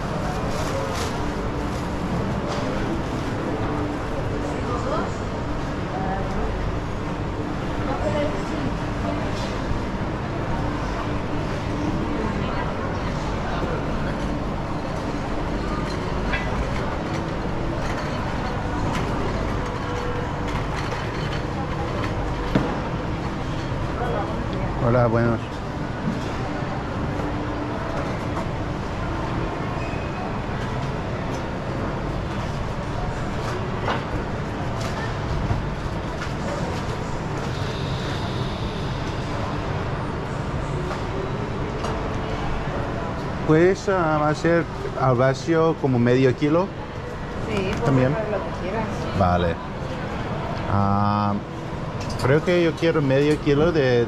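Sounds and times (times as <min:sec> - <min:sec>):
indoor market din: 0:00.0 - 0:54.0
murmur of voices: 0:00.0 - 0:54.0.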